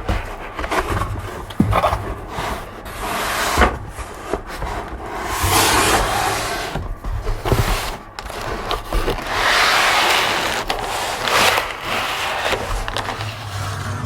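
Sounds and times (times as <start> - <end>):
cardboard box rubbing and scraping: 0.0 - 14.0.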